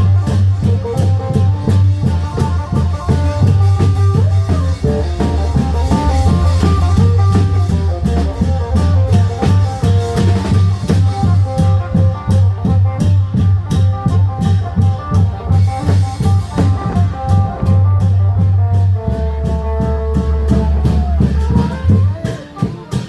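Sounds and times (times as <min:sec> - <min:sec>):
deep bass: 0:00.0 - 0:22.1
fast drum beat: 0:00.0 - 0:23.0.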